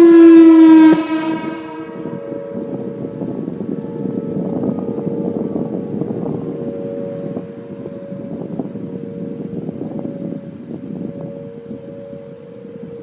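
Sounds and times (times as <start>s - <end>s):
warning siren steady tone: 0.0s - 13.0s
wind noise on microphone: 0.0s - 13.0s.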